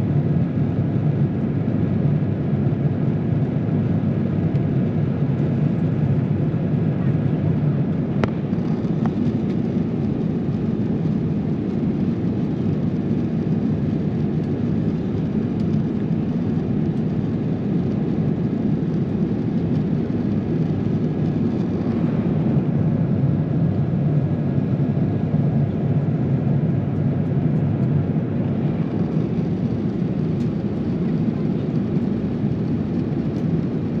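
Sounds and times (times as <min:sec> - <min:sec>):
aircraft cabin engine rumble: 0:00.0 - 0:34.0.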